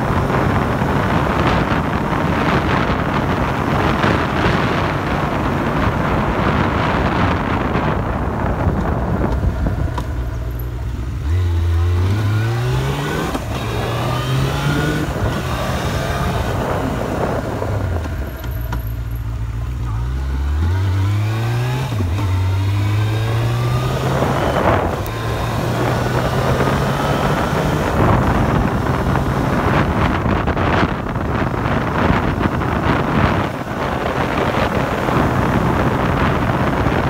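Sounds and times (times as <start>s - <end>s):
car engine accelerating: 0.0s - 37.0s
road and wind noise: 0.0s - 37.0s.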